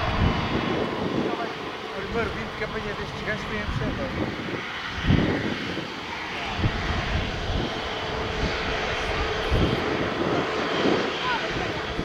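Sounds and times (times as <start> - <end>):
jet engines humming at low power: 0.0 - 12.0.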